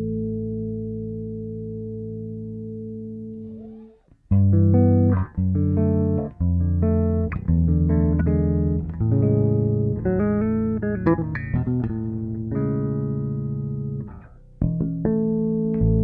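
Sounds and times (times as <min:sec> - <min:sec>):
bass guitar playing chords: 0:00.0 - 0:16.0.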